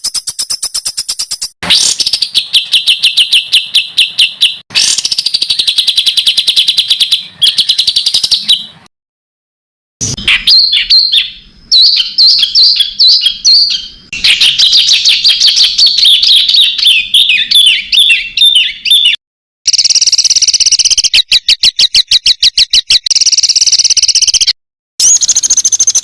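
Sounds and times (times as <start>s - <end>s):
songbird rapid repeated notes: 0.0s - 8.8s, 10.0s - 26.0s
sharp down-slurred bird chirps: 0.0s - 8.9s, 10.0s - 26.0s.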